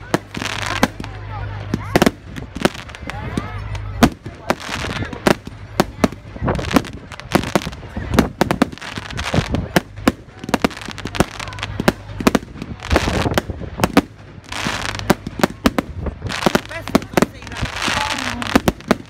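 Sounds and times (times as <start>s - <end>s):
fireworks bangs and cracks: 0.0s - 19.0s
fireworks crackling: 0.0s - 19.0s.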